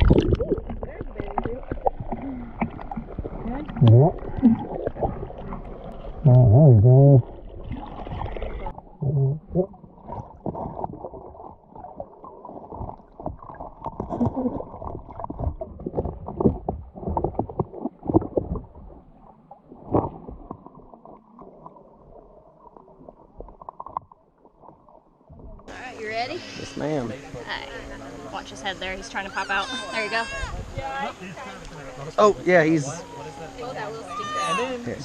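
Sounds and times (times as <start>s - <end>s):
muffled underwater sloshing: 0.0s - 35.0s.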